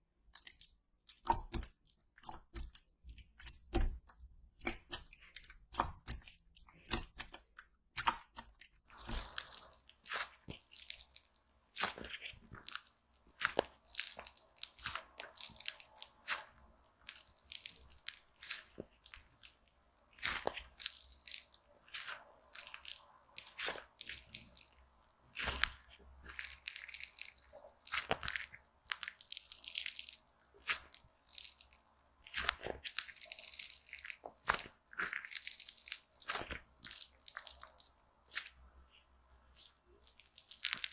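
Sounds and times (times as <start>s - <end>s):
slime crunching crackles: 8.0s - 40.9s.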